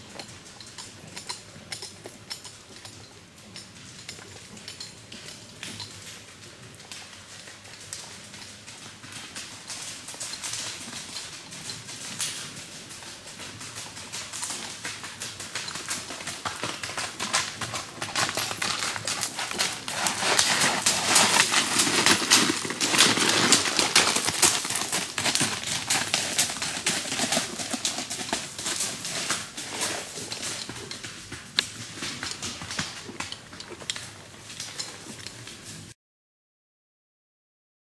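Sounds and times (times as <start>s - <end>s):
mule hooves on rocky trail: 0.0s - 35.9s.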